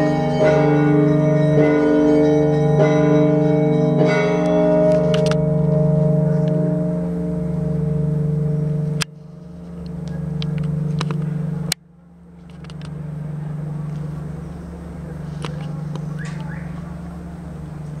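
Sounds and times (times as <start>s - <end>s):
large church bell ringing: 0.0s - 18.0s.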